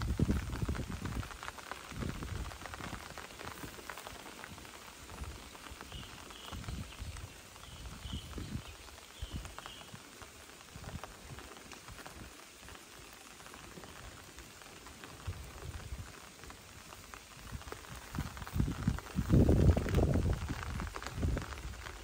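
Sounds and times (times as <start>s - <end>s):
light rain on water: 0.0s - 22.0s.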